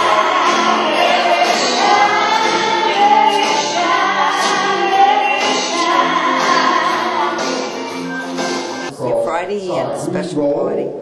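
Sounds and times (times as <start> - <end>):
dance music with singing: 0.0 - 9.0.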